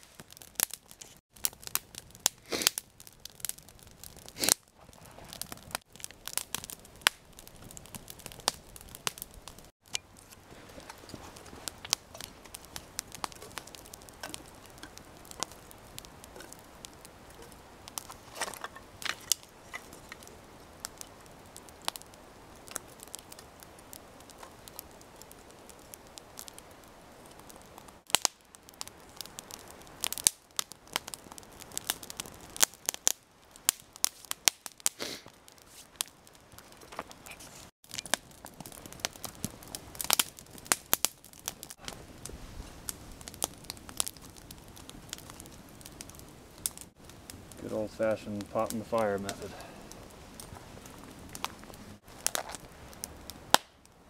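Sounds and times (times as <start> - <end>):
burning wood snapping: 0.0 - 54.0
campfire crackling: 0.0 - 54.0.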